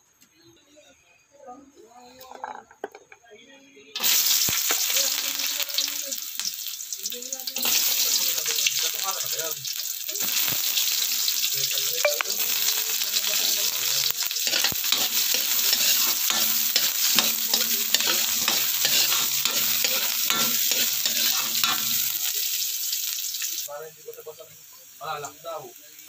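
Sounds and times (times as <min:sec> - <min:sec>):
chicken frying in hot oil: 0:04.0 - 0:26.0.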